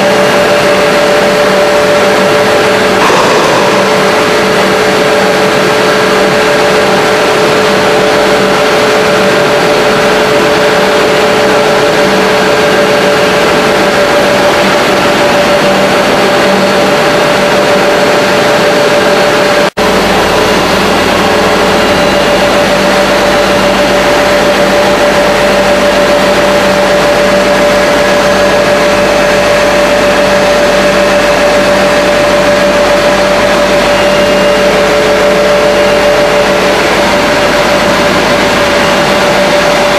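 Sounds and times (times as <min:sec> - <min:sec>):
machinery drone: 0:00.0 - 0:39.9
steady machine whine: 0:00.0 - 0:39.9.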